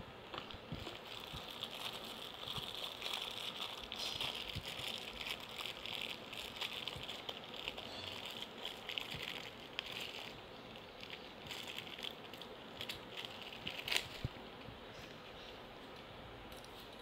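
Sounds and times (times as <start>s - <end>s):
packaging crinkling and rustling: 0.3s - 14.3s.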